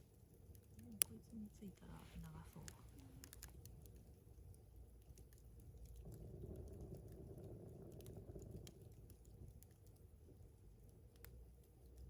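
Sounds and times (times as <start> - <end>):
campfire crackling and popping: 0.0 - 12.0
low rumble: 0.7 - 12.0.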